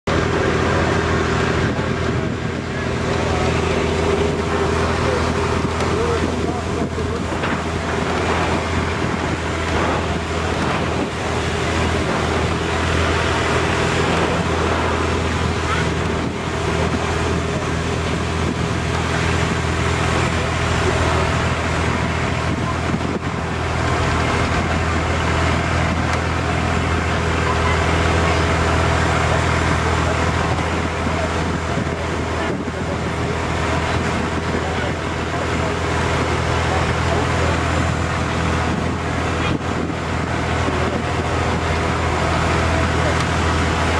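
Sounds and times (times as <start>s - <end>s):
boat engine droning: 0.0s - 43.9s
water rushing: 0.1s - 43.9s
wind noise: 0.2s - 43.9s.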